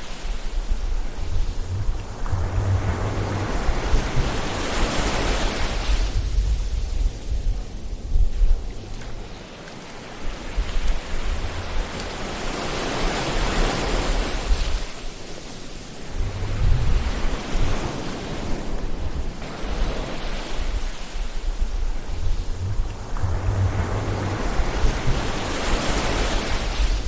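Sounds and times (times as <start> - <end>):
ocean surf washing in: 0.0 - 27.0.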